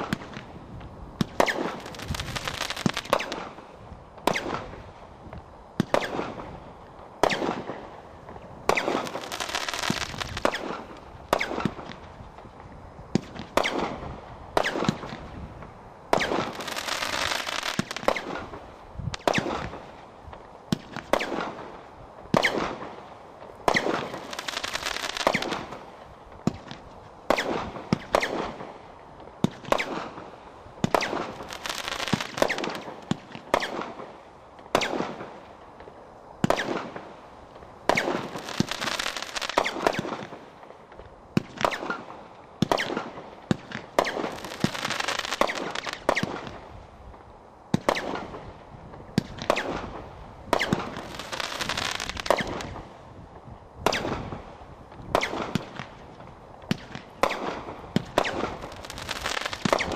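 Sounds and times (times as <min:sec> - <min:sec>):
firework crackle: 0:00.0 - 0:59.9.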